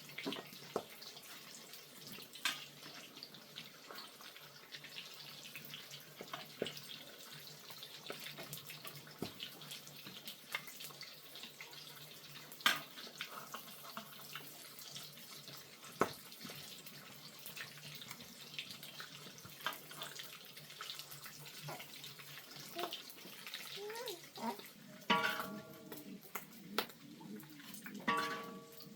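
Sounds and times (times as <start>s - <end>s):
running water: 0.0s - 28.9s.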